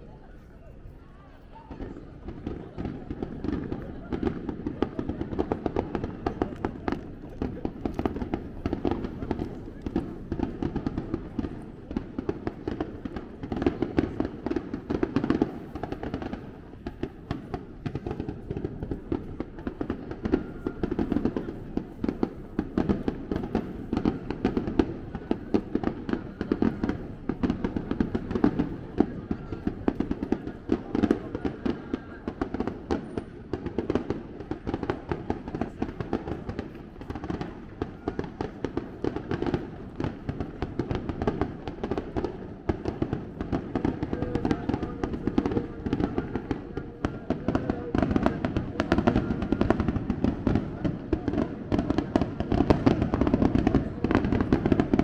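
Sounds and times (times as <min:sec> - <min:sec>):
fireworks crackling and banging: 0:00.1 - 0:55.0.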